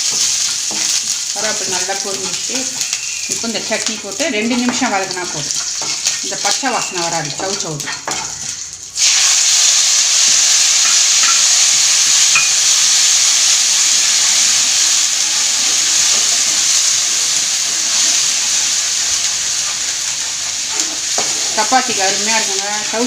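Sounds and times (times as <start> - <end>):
chutney sizzling in hot oil: 0.0 - 23.0.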